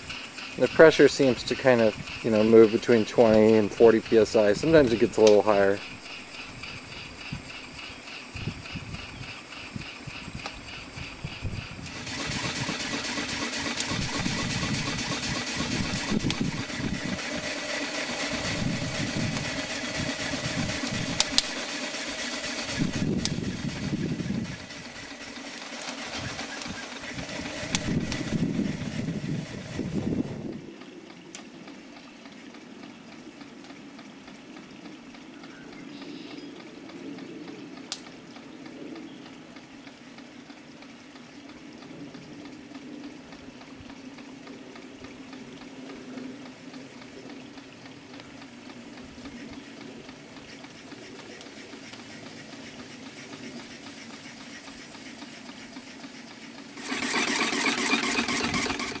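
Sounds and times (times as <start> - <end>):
small steam engine running: 0.0 - 34.6, 39.5 - 59.0.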